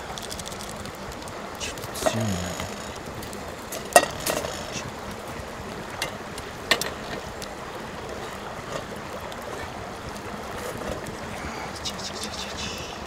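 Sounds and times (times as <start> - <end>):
sharp fire pops: 0.0 - 11.2
campfire crackling: 0.0 - 13.0.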